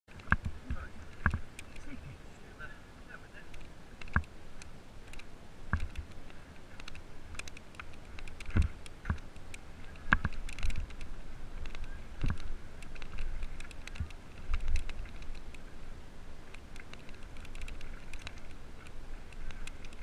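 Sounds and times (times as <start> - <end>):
bike rattling and clicking: 0.1 - 2.0, 3.5 - 20.0.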